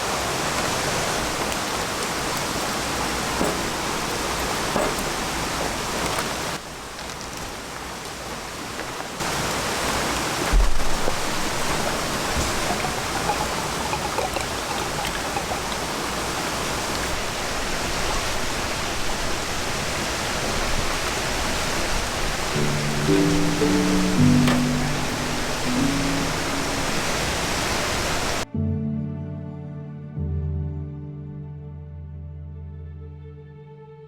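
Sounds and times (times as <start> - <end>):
water rushing: 0.0 - 28.4.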